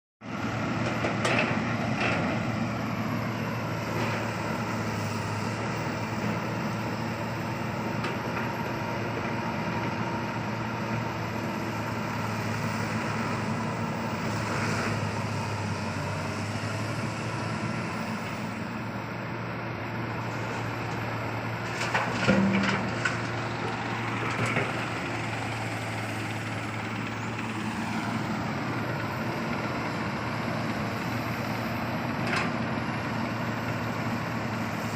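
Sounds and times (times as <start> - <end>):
heavy diesel machinery humming: 0.2 - 34.9.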